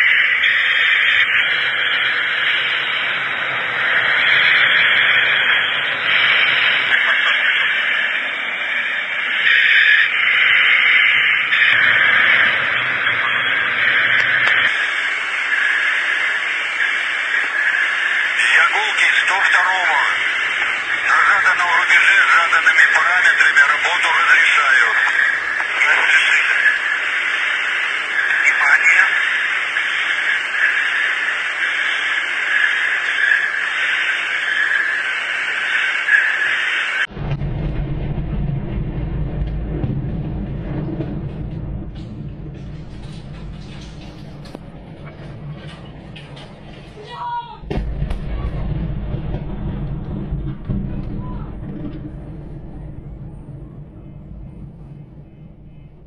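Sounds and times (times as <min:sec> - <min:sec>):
jet aircraft rushing hiss: 0:00.0 - 0:56.0
low hum: 0:00.0 - 0:56.0.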